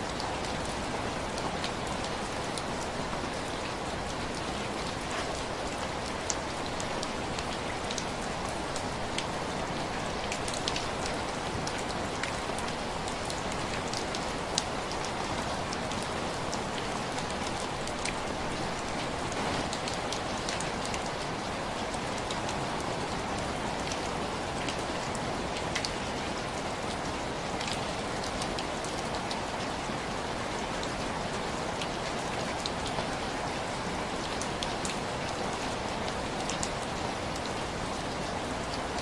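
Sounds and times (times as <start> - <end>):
heavy rain: 0.0 - 39.0.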